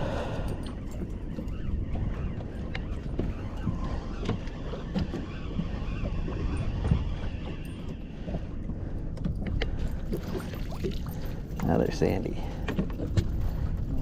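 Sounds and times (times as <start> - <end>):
low rumble of wind and water: 0.0 - 14.0
wind buffeting microphone: 0.0 - 14.0.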